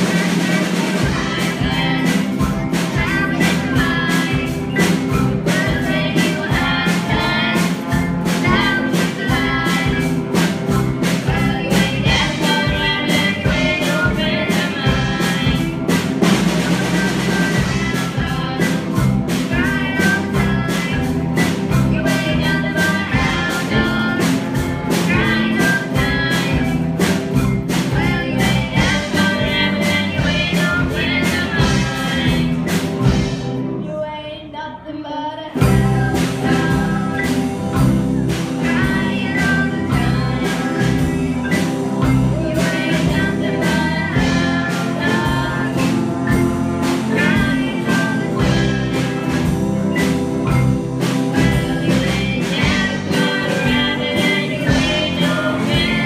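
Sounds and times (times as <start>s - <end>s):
women singing together: 0.0s - 26.9s, 27.8s - 32.8s, 35.5s - 37.9s, 38.6s - 41.3s, 42.1s - 49.2s, 51.2s - 56.0s
live band playing: 0.0s - 34.5s, 35.4s - 56.0s.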